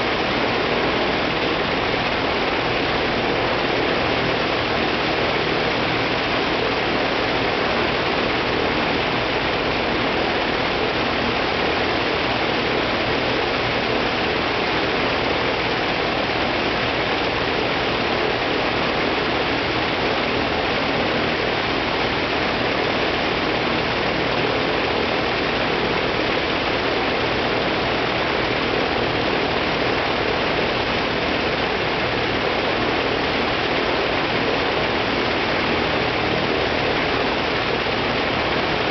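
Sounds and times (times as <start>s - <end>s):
radial aircraft engine running: 0.0s - 38.9s.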